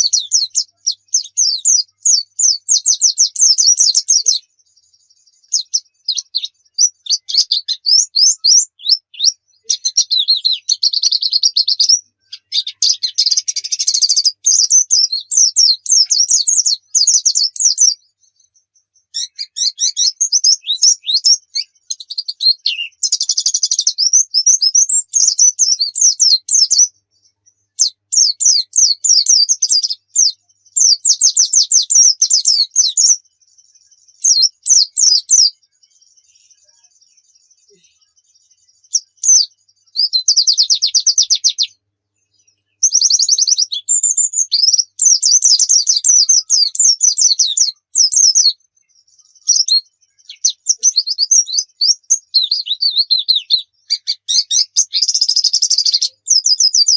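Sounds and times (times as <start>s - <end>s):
bird singing rapid high chirps: 0.0s - 56.9s.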